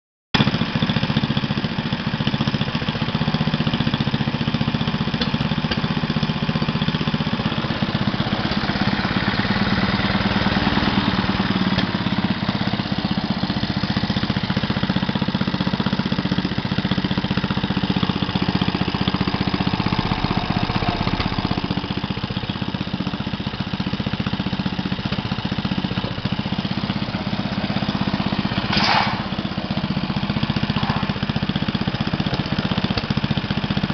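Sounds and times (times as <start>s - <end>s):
single-cylinder engine running: 0.4s - 33.9s.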